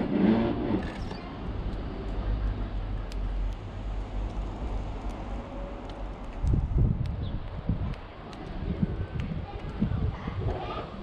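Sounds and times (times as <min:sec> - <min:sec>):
road vehicle rumble: 0:00.0 - 0:11.0
faint sharp clicks: 0:00.8 - 0:09.8.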